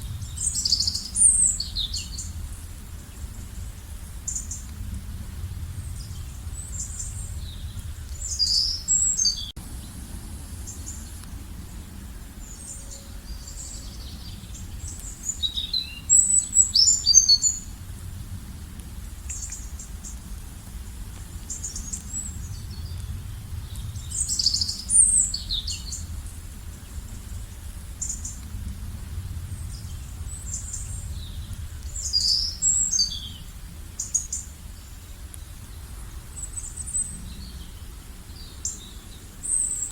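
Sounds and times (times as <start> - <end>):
songbirds chirping and trilling: 0.0 - 18.2, 21.2 - 39.9
steady low rumble: 0.0 - 39.9.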